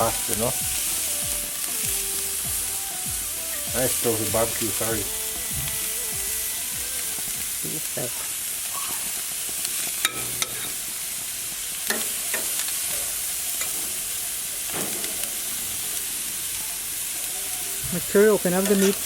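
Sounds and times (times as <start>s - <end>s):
meat sizzling on grill: 0.0s - 19.0s.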